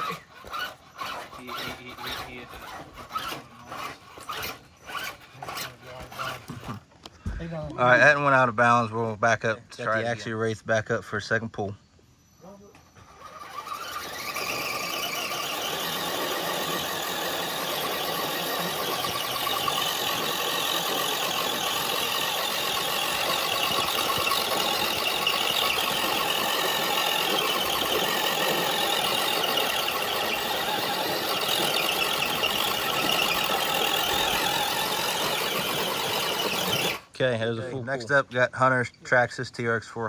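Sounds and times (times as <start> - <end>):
electric motor and gearbox whining: 0.0 - 8.8, 12.6 - 37.1.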